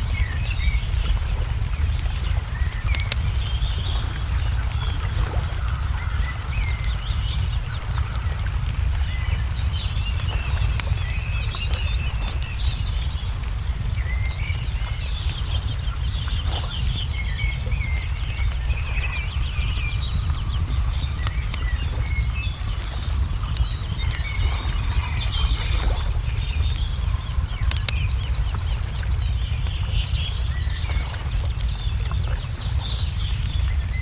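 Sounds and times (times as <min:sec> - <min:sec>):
birds chirping: 0:00.0 - 0:34.0
low rumble: 0:00.0 - 0:34.0
wood fire crackling: 0:00.0 - 0:34.0.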